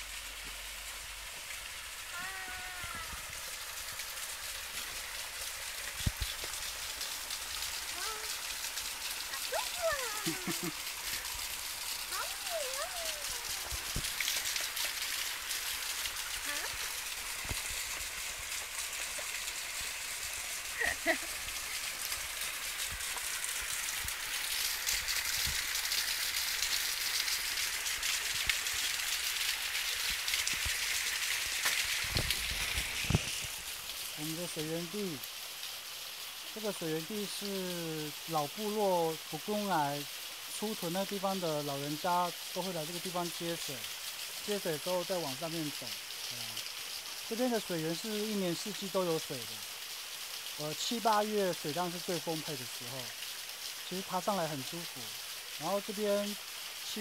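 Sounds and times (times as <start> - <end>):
waterfall splashing on stones: 0.0 - 57.0.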